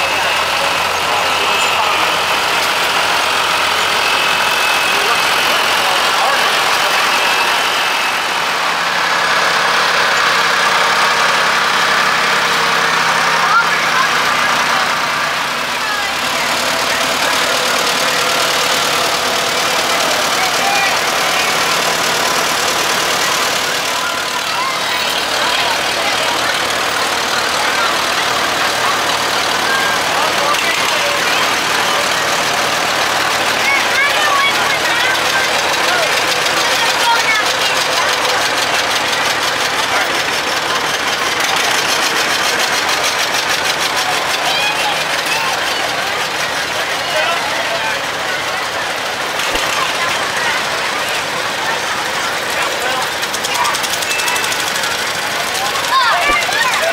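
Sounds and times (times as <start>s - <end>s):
tractor engine pulling away: 0.0s - 56.9s
tractor engine running: 0.0s - 56.9s.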